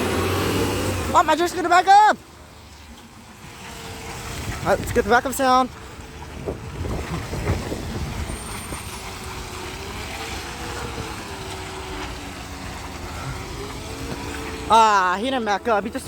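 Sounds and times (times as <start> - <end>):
garbage truck engine rumbling: 0.0 - 16.0.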